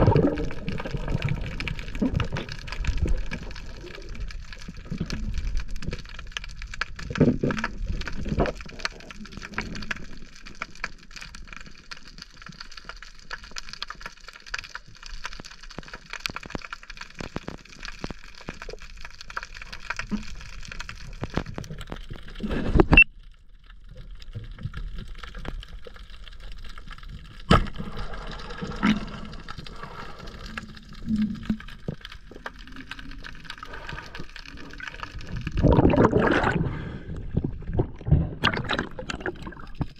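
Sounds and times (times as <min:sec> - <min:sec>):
underwater clicks crackling: 0:00.0 - 0:36.6
underwater water noise: 0:00.0 - 0:39.9.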